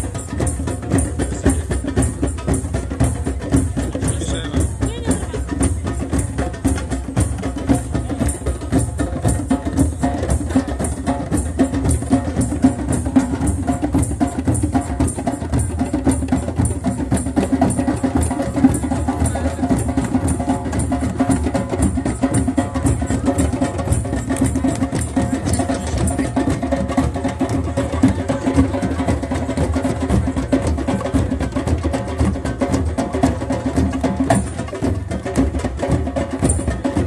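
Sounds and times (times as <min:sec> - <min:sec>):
hand drums playing: 0:00.0 - 0:37.0.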